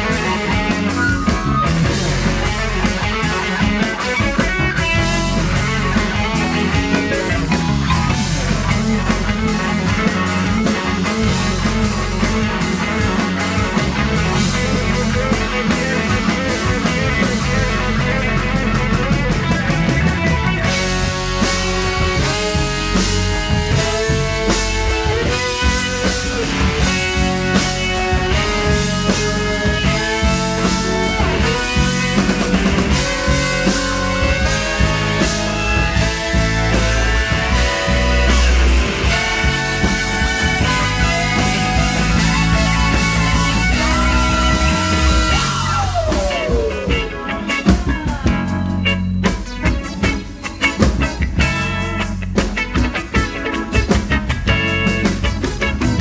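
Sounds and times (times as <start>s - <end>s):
electric guitar solo: 0.0s - 56.0s
live funk band: 0.0s - 56.0s.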